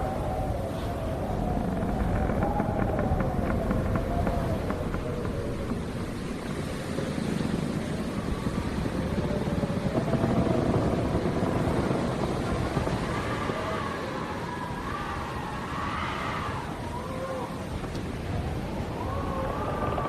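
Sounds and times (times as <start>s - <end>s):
strong wind howling: 0.0s - 20.0s.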